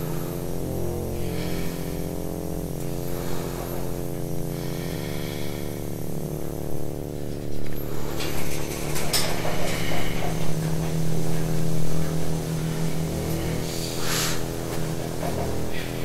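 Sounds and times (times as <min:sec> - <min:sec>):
film score low chords: 0:00.0 - 0:16.0.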